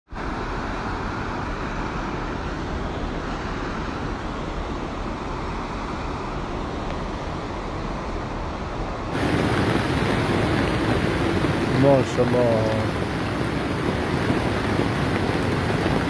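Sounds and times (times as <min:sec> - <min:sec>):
floodwater rushing: 0:00.1 - 0:16.0.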